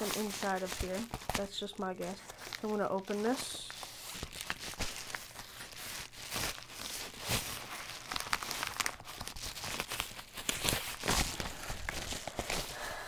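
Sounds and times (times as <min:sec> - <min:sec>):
paper envelope tearing and crinkling: 0:00.0 - 0:12.8.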